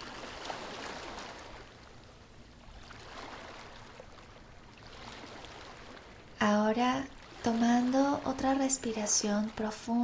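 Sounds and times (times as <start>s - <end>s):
ocean waves washing on shore: 0.0s - 10.0s.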